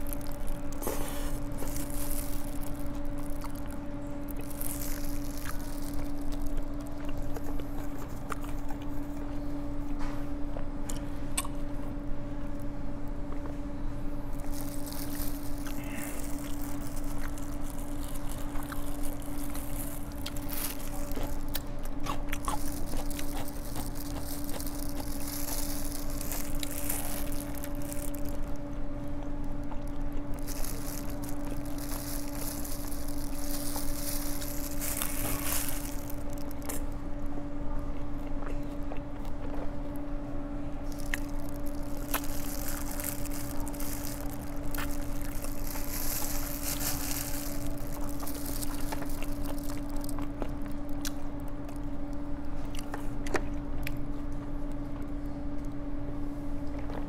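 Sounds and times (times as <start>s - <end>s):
biting and chewing: 0.0s - 40.2s, 40.8s - 55.8s
steady low hum: 0.0s - 57.0s.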